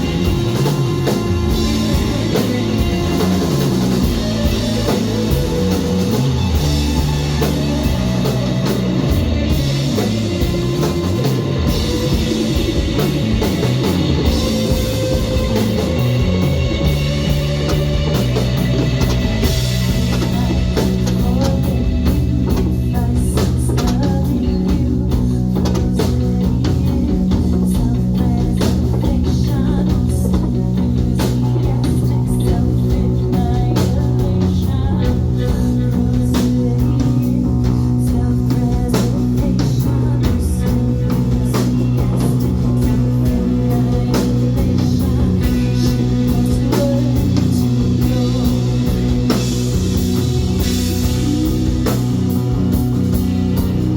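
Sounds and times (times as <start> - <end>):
rock song with guitars and drums: 0.0 - 53.9.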